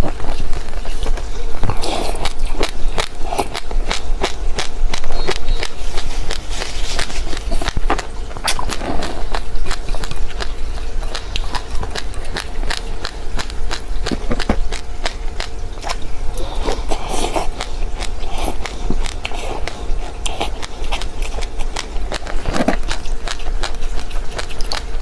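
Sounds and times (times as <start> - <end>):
chewing crunchy seeds: 0.0 - 25.0
steady low hum: 0.0 - 25.0.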